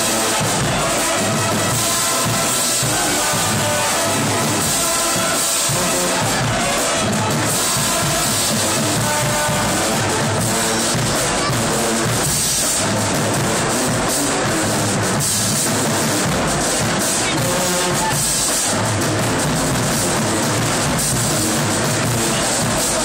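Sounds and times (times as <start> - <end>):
marching band playing: 0.0 - 23.0
pounding bass drum: 0.0 - 23.0
tuba: 0.0 - 23.0.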